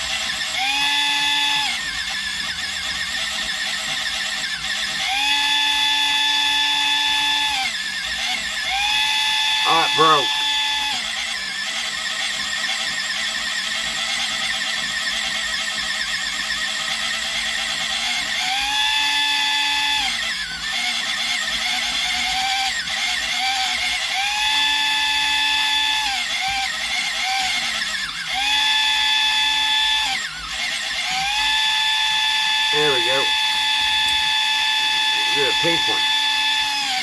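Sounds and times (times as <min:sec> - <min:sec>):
electric pencil sharpener whining: 0:00.0 - 0:37.0.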